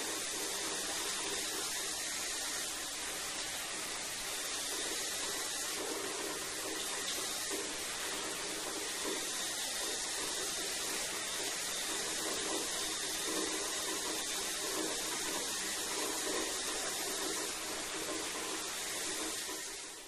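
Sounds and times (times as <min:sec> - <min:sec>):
shower water spraying: 0:00.0 - 0:20.0.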